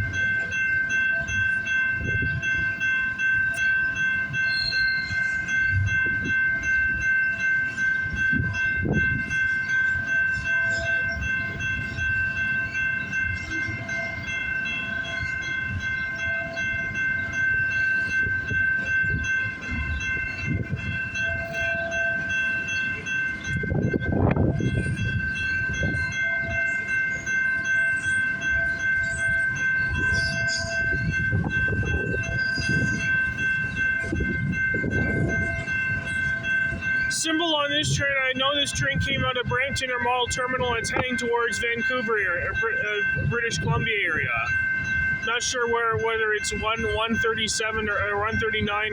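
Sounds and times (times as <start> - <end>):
freight train cars rumbling: 0.0 - 48.9.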